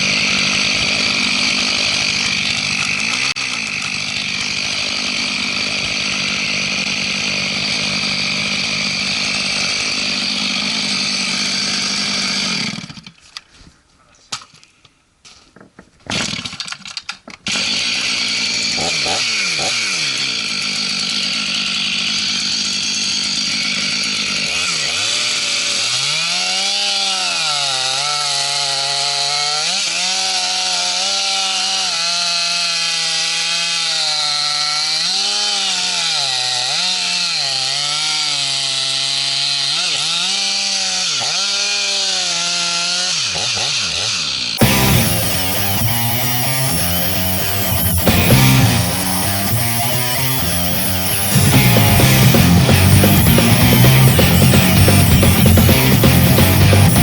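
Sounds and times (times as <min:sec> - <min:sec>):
chainsaw cutting wood: 0:00.0 - 0:13.4, 0:16.0 - 0:57.0.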